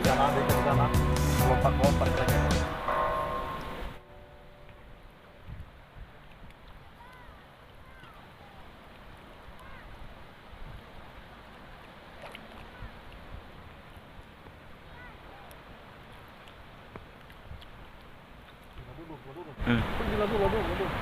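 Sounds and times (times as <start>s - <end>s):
water washing around boat: 0.0s - 21.0s
wind: 0.0s - 21.0s.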